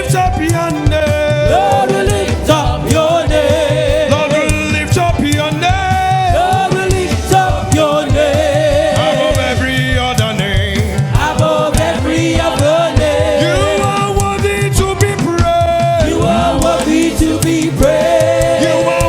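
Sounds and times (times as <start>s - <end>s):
gospel choir singing: 0.0s - 19.0s
live band playing: 0.0s - 19.0s.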